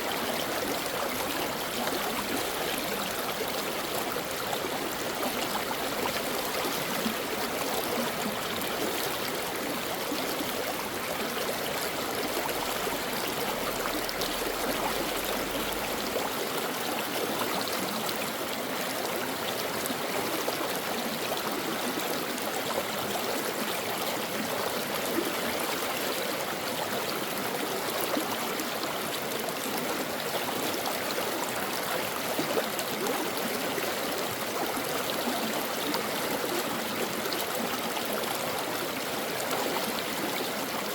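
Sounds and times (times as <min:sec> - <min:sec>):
brook water running: 0:00.0 - 0:40.9.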